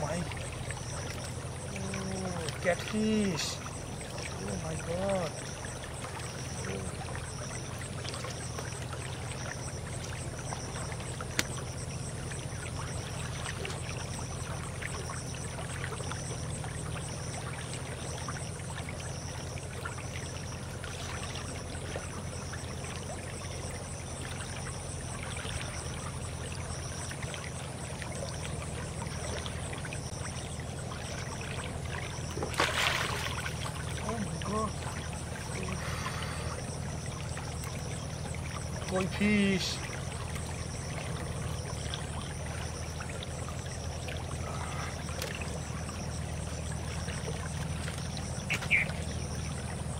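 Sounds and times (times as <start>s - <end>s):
stream trickling: 0.0s - 49.9s.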